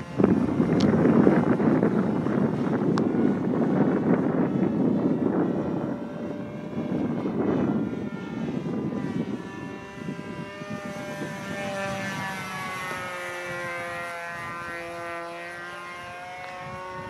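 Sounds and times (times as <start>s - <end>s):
model plane engine buzzing: 0.0s - 17.0s
wind buffeting microphone: 0.0s - 17.0s.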